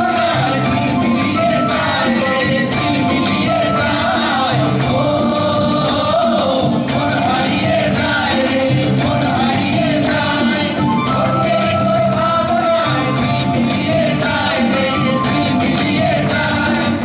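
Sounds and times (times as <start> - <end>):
live folk music with singing: 0.0 - 17.0.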